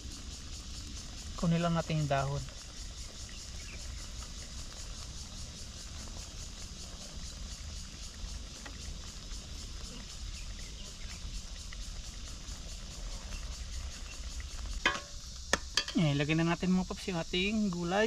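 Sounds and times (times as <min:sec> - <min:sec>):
pot simmering hum and hiss: 0:00.0 - 0:18.0.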